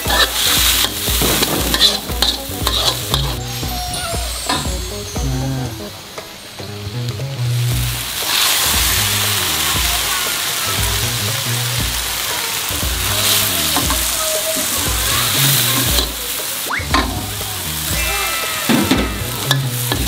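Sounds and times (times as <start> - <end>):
background music: 0.0 - 20.0
food sizzling in a wok: 0.0 - 20.0.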